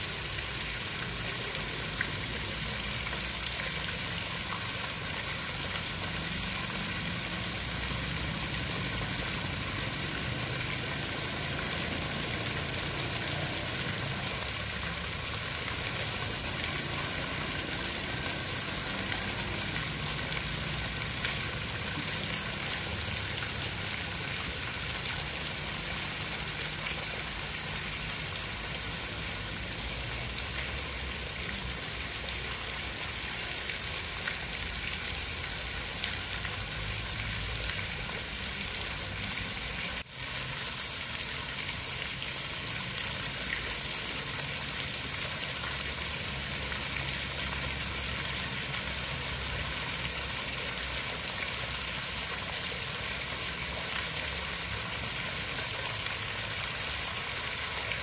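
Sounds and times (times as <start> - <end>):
falling and running water: 0.0 - 58.0.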